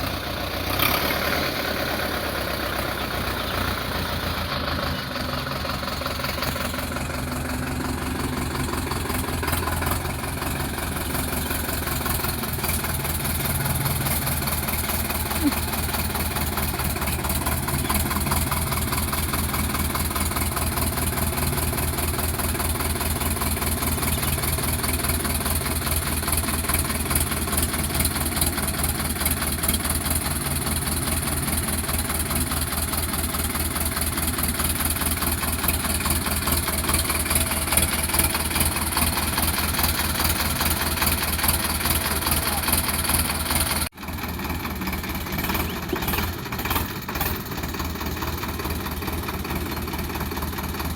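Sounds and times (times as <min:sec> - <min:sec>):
quieter engine sound: 0:00.0 - 0:50.9
tractor diesel engine running: 0:00.0 - 0:50.9.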